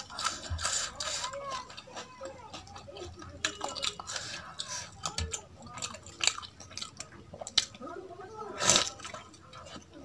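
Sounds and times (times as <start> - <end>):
chewing: 0.0 - 10.0
fingers squelching food: 0.0 - 10.0.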